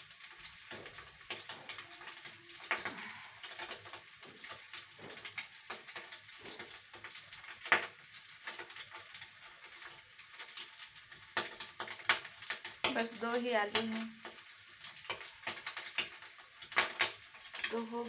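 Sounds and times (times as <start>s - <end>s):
oil sizzling and popping: 0.0s - 18.0s.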